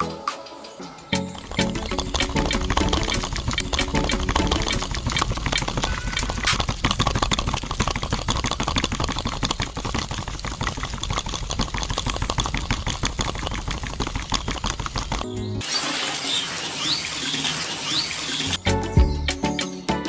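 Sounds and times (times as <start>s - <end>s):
small motor rattling: 1.4s - 18.6s.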